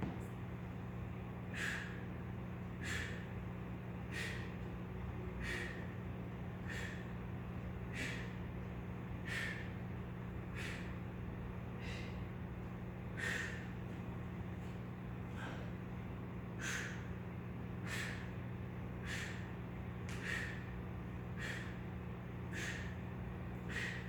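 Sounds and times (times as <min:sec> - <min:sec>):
constant low hum: 0:00.0 - 0:24.0
man breathing forcefully: 0:01.4 - 0:24.0.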